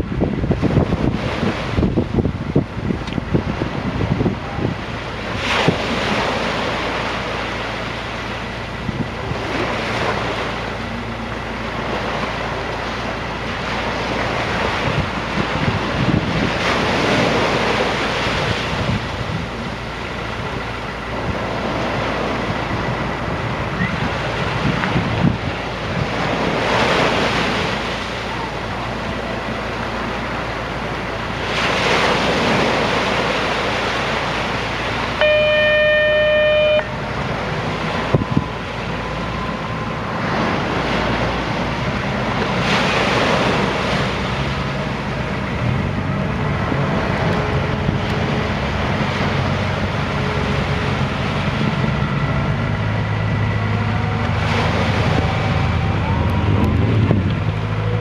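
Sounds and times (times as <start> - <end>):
wind buffeting microphone: 0.0 - 35.0, 37.0 - 58.0
low engine hum: 0.0 - 58.0
small waves breaking on slipway: 0.0 - 58.0.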